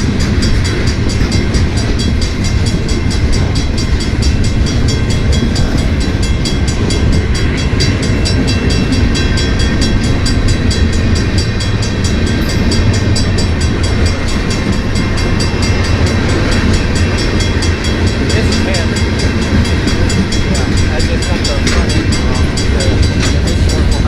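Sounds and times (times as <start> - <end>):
freight train rumble: 0.0 - 24.0
wheels clicking on rail: 0.0 - 24.0.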